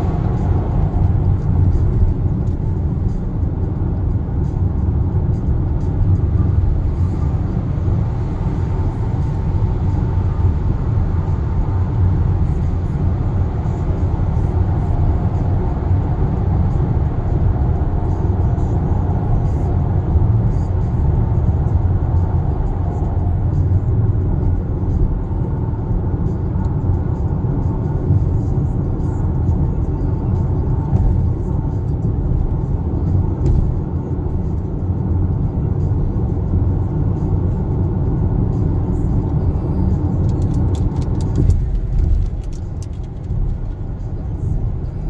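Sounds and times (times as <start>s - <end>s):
car cabin road and engine rumble: 0.0s - 45.0s.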